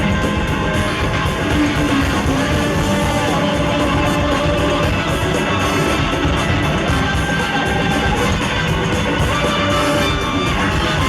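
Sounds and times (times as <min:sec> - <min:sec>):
electric guitar: 0:00.0 - 0:11.0
live funk band playing: 0:00.0 - 0:11.0.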